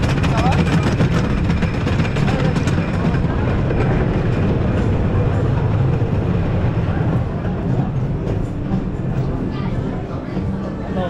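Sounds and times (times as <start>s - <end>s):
roller coaster wheels rumbling: 0.0s - 11.0s.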